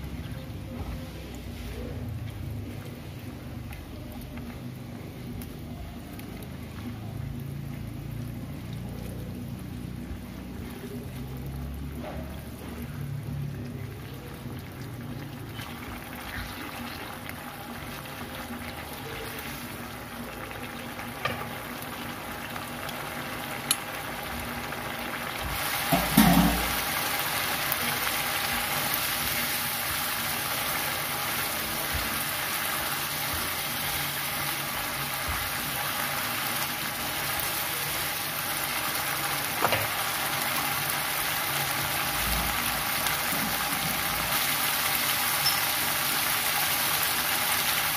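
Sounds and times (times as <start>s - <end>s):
sauce simmering and sizzling in pan: 0.0s - 47.9s.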